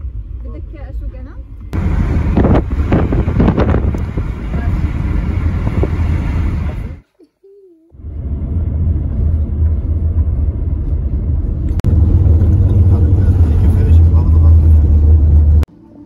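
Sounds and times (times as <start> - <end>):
road noise inside car: 0.0 - 7.0, 7.9 - 15.7.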